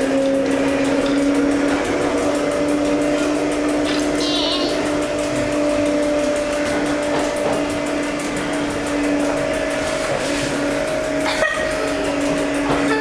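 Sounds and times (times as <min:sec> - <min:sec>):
train rolling noise: 0:00.0 - 0:13.0.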